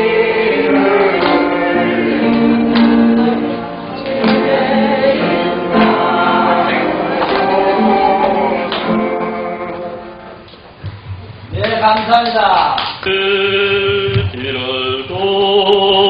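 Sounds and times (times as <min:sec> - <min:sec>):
group singing a praise song: 0:00.0 - 0:10.0, 0:13.0 - 0:16.0.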